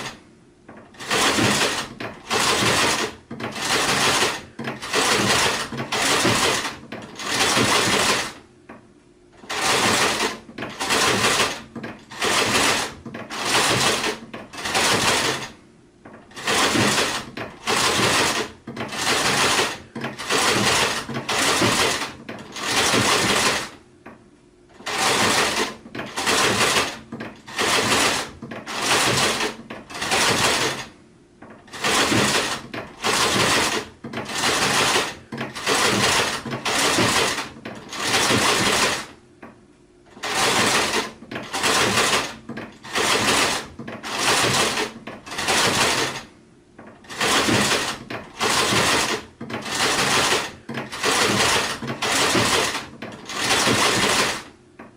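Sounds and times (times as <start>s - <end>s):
sewing machine stitching: 0.0s - 8.4s, 9.4s - 23.8s, 24.7s - 39.2s, 40.1s - 54.6s.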